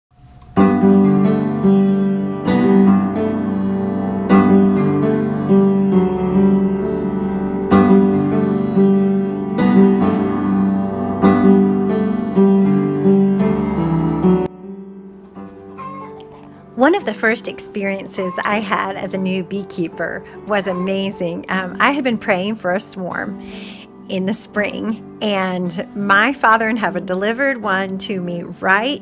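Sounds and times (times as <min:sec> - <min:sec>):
piano chords: 0:00.1 - 0:29.0.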